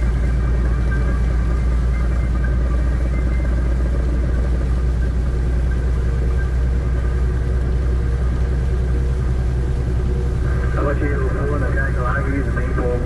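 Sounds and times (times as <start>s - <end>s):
truck cab rumble at highway speed: 0.0s - 13.0s.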